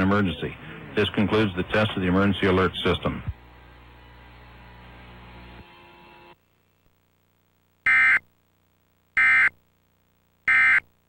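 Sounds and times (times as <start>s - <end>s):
faint broadcast hiss: 0.0s - 5.2s, 6.4s - 11.0s.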